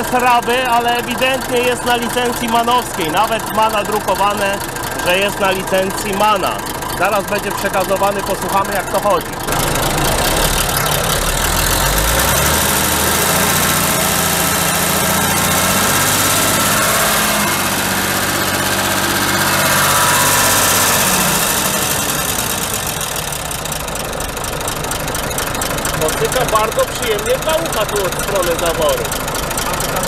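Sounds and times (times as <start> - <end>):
bus diesel engine revving: 0.0 - 30.0.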